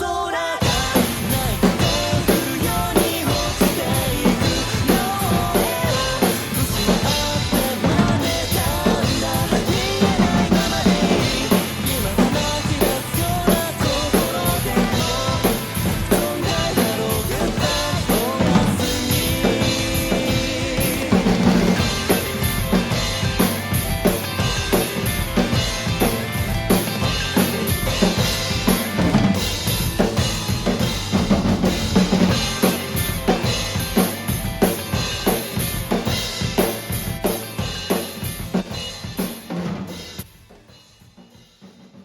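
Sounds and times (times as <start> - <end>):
pop-rock backing track: 0.0 - 41.6
drum kit playing: 0.6 - 42.0.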